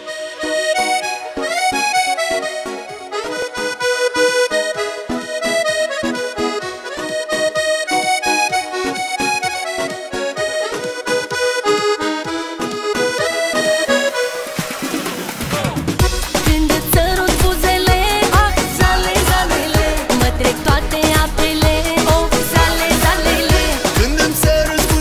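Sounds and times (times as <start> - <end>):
instrumental music with beat: 0.0 - 25.0.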